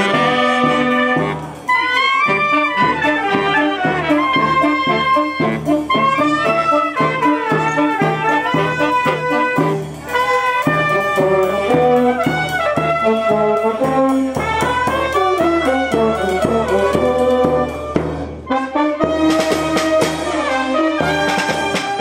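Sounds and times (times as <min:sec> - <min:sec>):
brass band playing march: 0:00.0 - 0:22.0.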